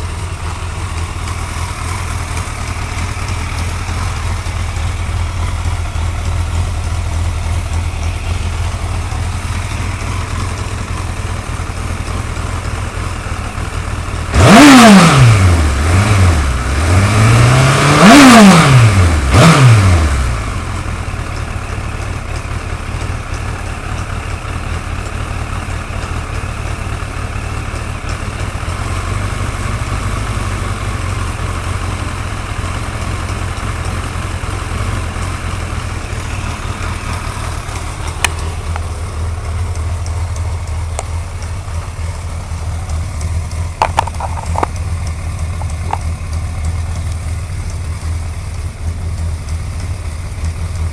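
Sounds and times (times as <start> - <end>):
motorcycle throttle blips: 0.0 - 17.0, 18.0 - 50.9
motorcycle engine idling: 0.0 - 17.3, 17.9 - 50.9.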